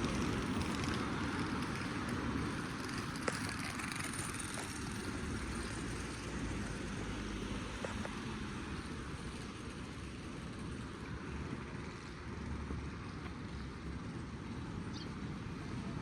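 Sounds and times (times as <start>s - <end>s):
hum of traffic: 0.0s - 16.0s.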